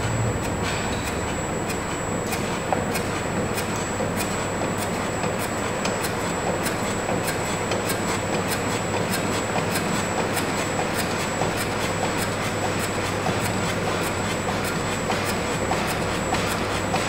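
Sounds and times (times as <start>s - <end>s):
mechanism low hum: 0.0s - 17.0s.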